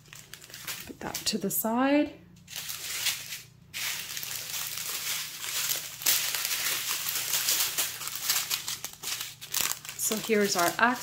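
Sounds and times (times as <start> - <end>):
plastic bags crinkling: 0.0 - 1.4, 2.4 - 11.0.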